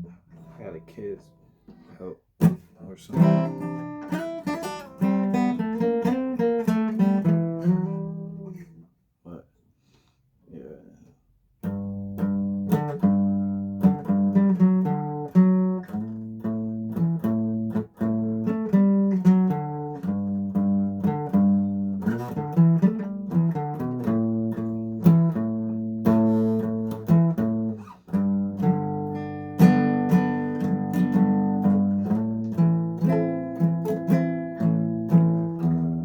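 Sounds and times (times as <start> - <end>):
plucked guitar notes and chords: 0.0 - 8.8, 11.6 - 36.0.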